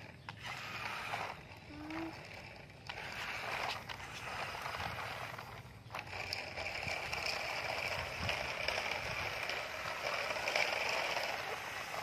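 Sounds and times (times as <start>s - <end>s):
toy trucks rattling on concrete: 0.0s - 12.0s.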